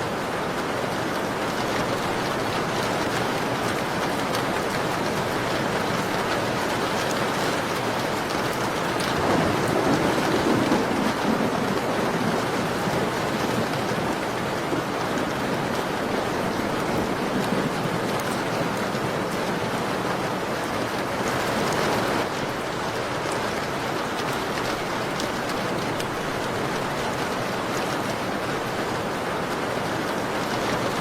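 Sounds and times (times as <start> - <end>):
rain falling on a window: 0.0 - 31.0.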